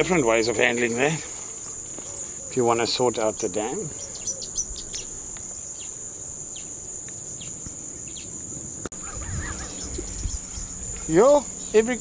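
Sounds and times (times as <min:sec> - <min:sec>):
crickets shrilling: 0:00.0 - 0:12.0.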